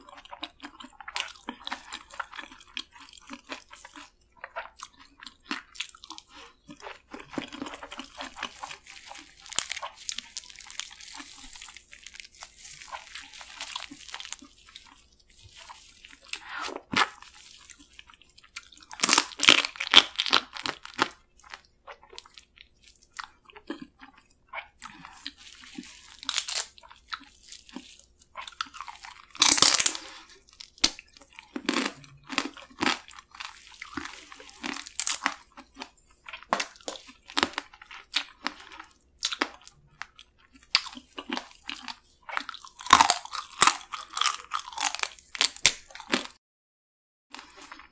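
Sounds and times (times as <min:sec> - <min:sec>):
crab shell crunching and cracking: 0:00.0 - 0:46.4
wet chewing: 0:00.0 - 0:46.4.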